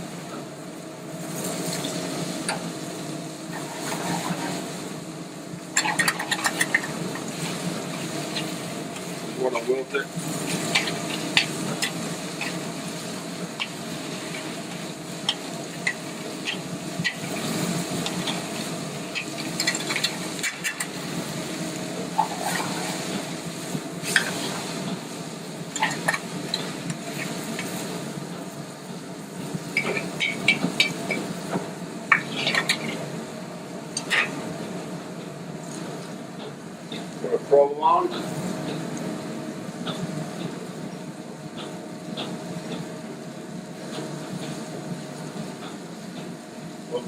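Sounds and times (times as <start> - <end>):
kitchen hum: 0.0 - 47.0.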